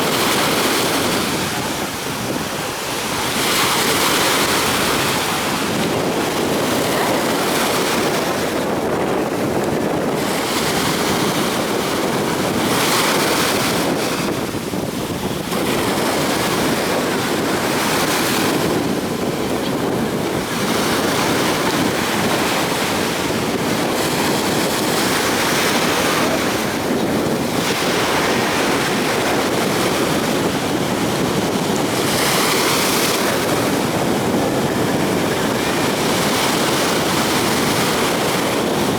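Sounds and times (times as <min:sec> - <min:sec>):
surf rushing wash: 0:00.0 - 0:38.9
waves crashing: 0:00.0 - 0:38.9.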